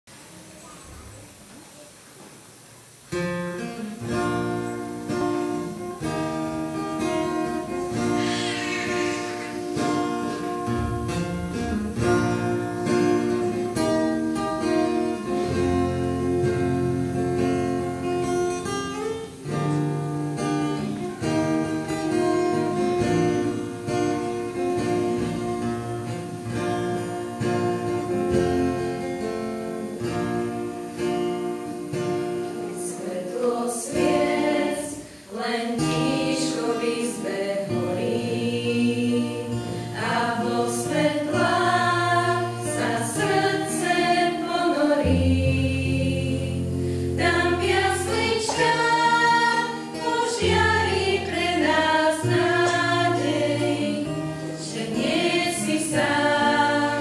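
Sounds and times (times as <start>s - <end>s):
acoustic guitar strummed and plucked: 3.1s - 57.0s.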